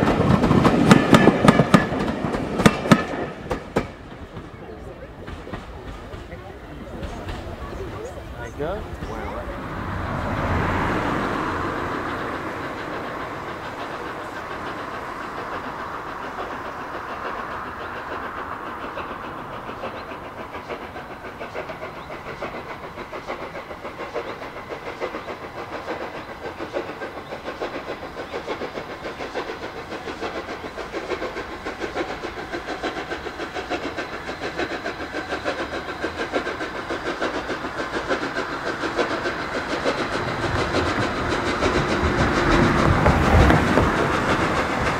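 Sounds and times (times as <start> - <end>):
steam locomotive chuffing: 0.0 - 44.9.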